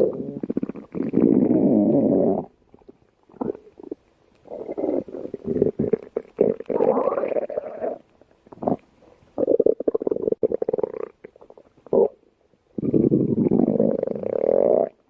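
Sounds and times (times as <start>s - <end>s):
stomach growling: 0.0s - 12.2s, 12.8s - 15.0s.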